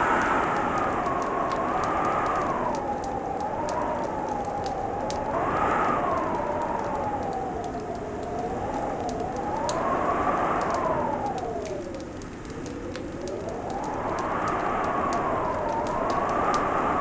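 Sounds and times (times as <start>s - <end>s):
wind howling and whistling: 0.0s - 17.0s
wood fire crackling and popping: 0.0s - 17.0s.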